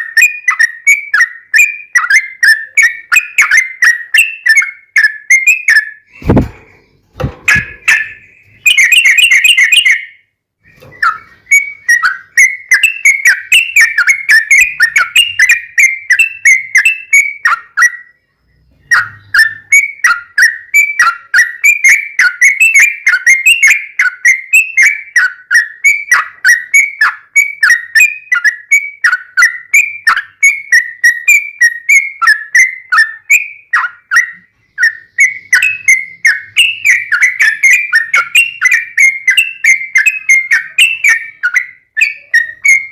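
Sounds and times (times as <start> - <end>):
bulbul chattering song: 0.0 - 42.9.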